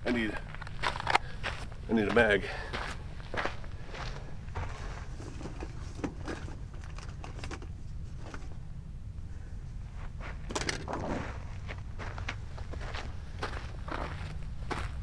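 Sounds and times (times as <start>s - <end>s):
crunching footsteps: 0.0s - 7.4s, 9.9s - 15.0s
low wind rumble on microphone: 2.9s - 15.0s.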